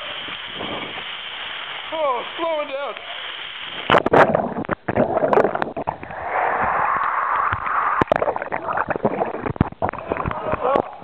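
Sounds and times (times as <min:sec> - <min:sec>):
water rushing down a slide: 0:00.0 - 0:11.0.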